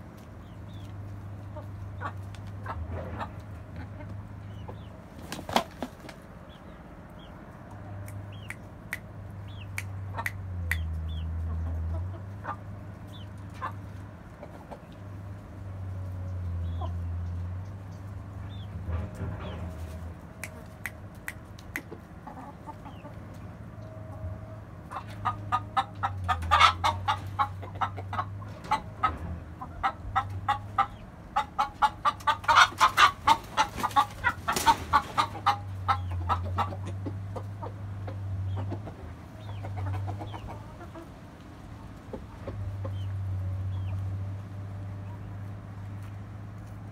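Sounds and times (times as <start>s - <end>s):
chickens pecking at feed: 0.0s - 46.9s
hens and rooster clucking: 0.0s - 46.9s.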